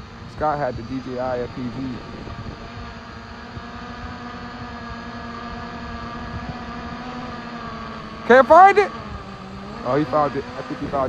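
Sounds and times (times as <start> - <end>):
drone motors humming: 0.0 - 11.0
low wind rumble: 0.0 - 11.0.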